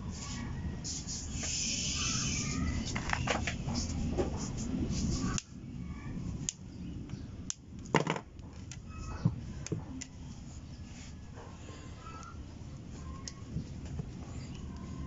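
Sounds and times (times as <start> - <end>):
low background rush: 0.0 - 15.0.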